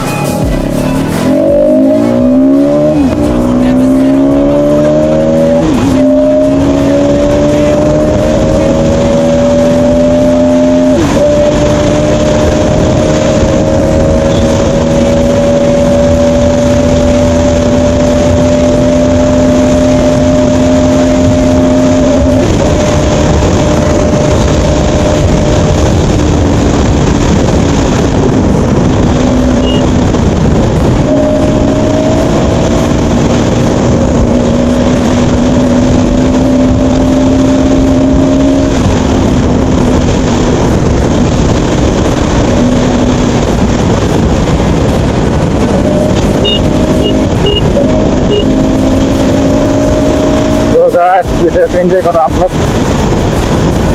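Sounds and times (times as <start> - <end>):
constant rushing noise: 0.0 - 53.9
motorcycle engine at road speed: 0.0 - 53.9.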